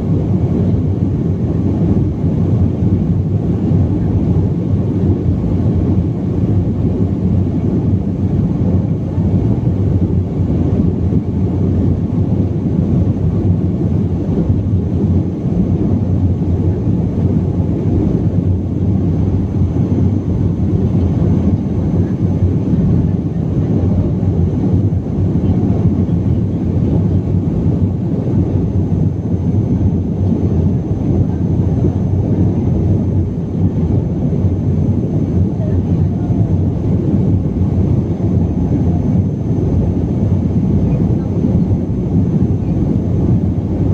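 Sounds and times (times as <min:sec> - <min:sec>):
airliner engines rumbling in cabin: 0:00.0 - 0:43.9.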